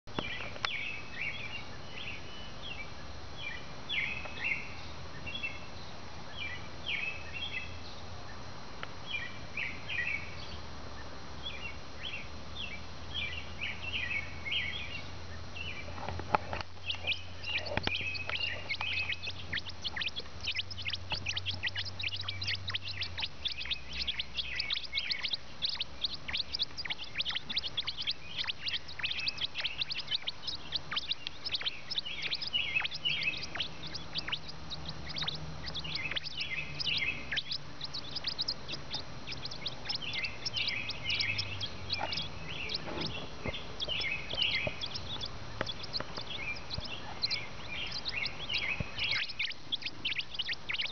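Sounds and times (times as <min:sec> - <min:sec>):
nestling birds chirping: 0:00.0 - 0:50.9.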